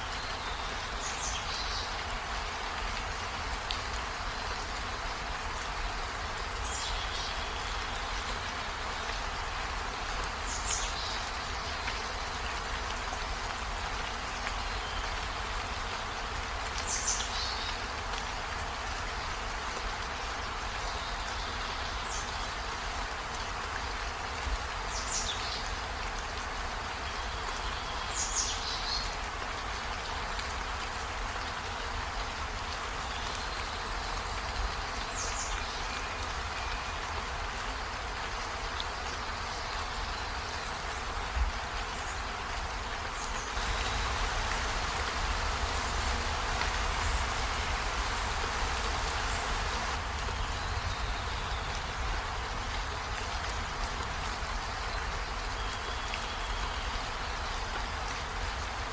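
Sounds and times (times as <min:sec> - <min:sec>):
rain hiss: 0:00.0 - 0:58.9.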